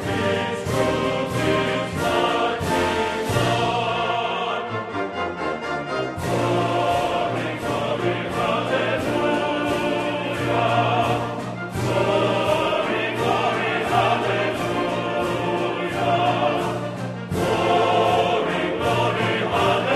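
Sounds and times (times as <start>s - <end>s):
choir singing operatically: 0.0s - 19.9s
orchestral music: 0.0s - 19.9s.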